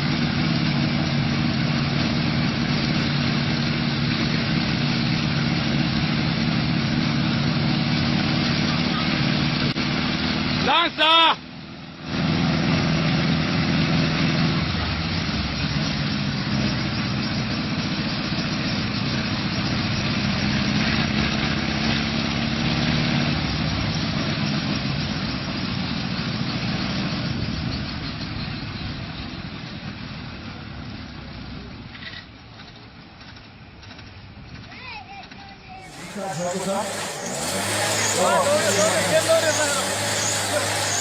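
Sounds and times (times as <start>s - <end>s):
helicopter engine running: 0.0s - 31.3s, 32.6s - 41.0s.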